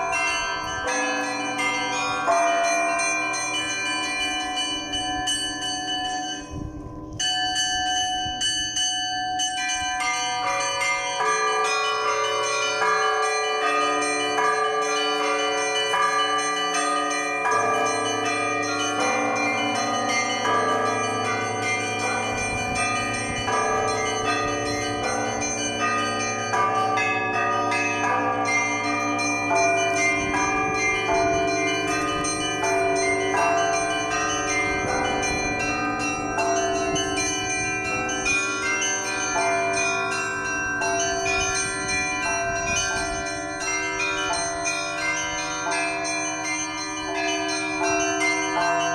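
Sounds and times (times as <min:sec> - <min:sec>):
church bells pealing: 0:00.0 - 0:48.9
deep bell ringing: 0:00.0 - 0:48.9.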